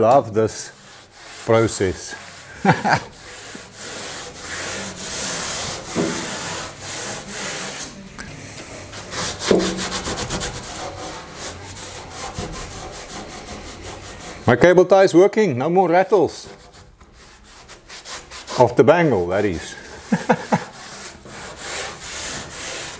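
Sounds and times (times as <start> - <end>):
rag rubbing on ribbed steel: 0.0 - 8.0, 8.6 - 14.7, 16.0 - 22.9.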